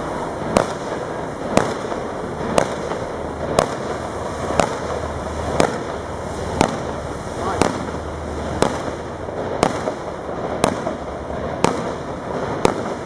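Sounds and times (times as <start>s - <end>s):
fireworks bangs: 0.0s - 13.0s
fireworks hissing and crackling: 0.0s - 13.0s.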